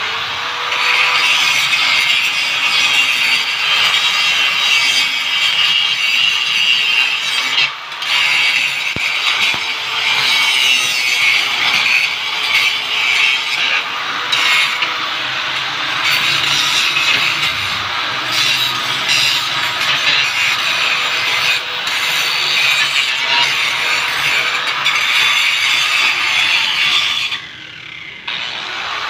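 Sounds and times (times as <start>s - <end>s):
angle grinder grinding steel: 0.0s - 29.0s.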